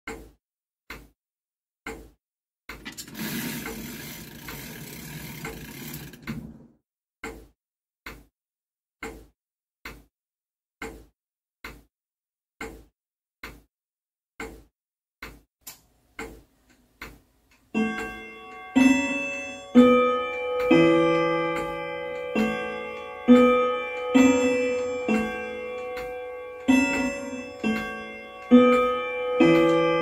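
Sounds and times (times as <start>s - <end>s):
clock ticking: 0.1s - 1.1s, 1.8s - 6.6s, 7.2s - 7.5s, 8.1s - 8.3s, 9.0s - 10.1s, 10.8s - 11.9s, 12.6s - 13.7s, 14.4s - 30.0s.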